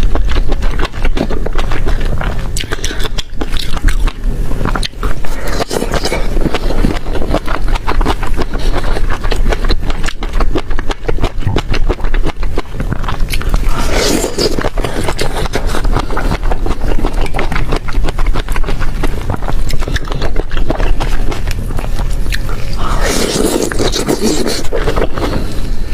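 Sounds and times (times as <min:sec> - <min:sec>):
person chewing and crunching food: 0:00.0 - 0:25.9.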